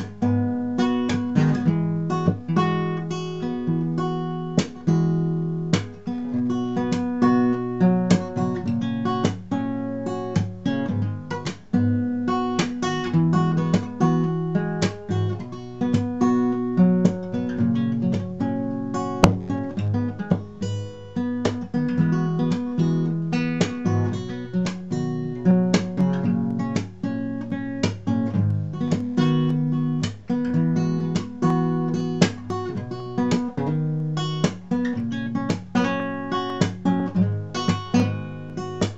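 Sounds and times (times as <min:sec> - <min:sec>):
fingerstyle acoustic guitar: 0:00.0 - 0:38.9.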